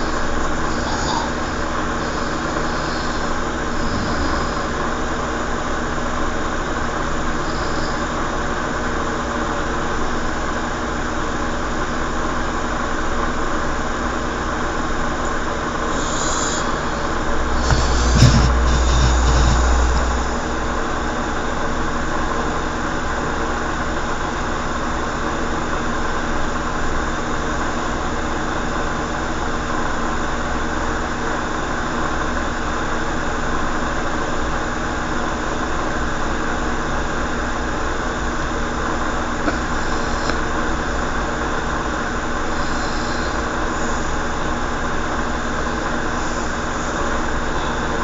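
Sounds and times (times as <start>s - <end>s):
steady mechanical hum: 0.0s - 48.0s.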